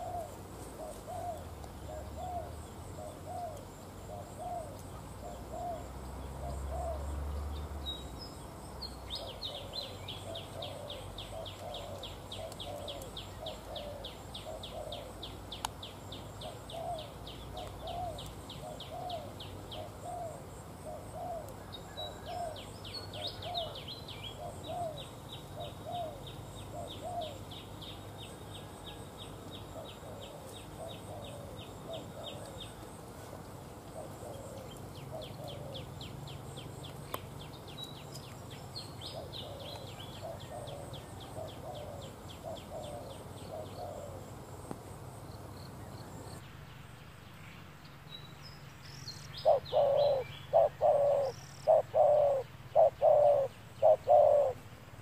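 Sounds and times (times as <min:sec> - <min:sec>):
doves cooing: 0:00.0 - 0:07.3, 0:09.1 - 0:45.2, 0:49.4 - 0:55.0.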